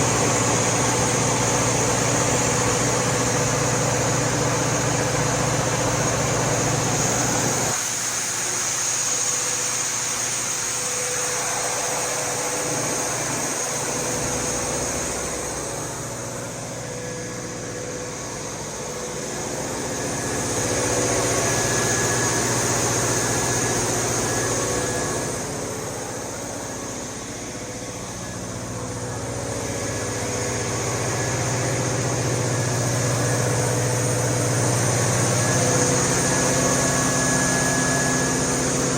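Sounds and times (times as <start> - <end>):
diesel generator engine droning: 0.0 - 38.9.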